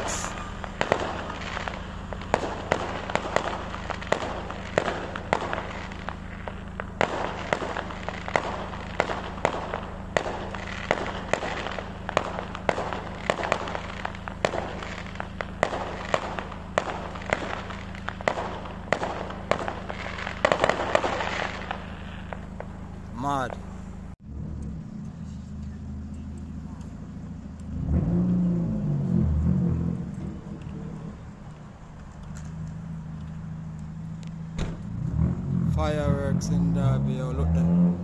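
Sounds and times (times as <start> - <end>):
fireworks bangs and crackles: 0.0 - 24.7, 25.9 - 38.0.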